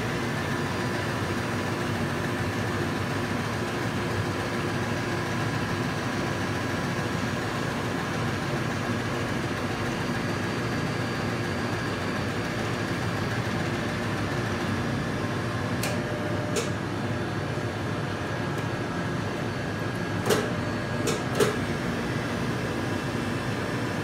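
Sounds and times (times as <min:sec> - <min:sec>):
frozen yogurt machine humming: 0:00.0 - 0:24.0.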